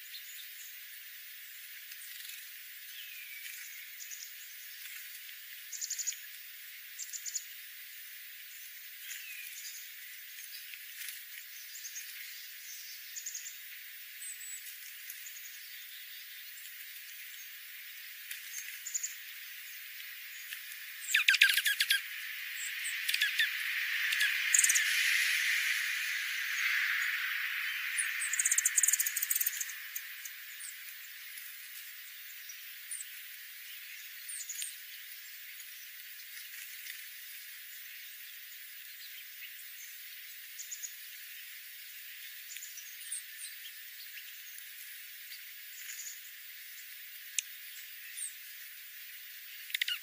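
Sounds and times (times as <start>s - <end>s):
songbirds chipping: 0.0s - 50.0s
steady hiss: 0.0s - 50.0s.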